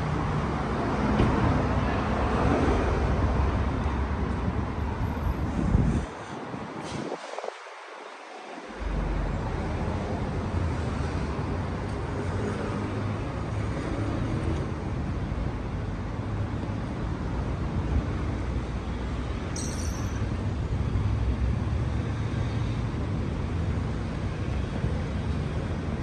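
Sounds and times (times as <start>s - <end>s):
cars passing on street: 0.0s - 26.0s.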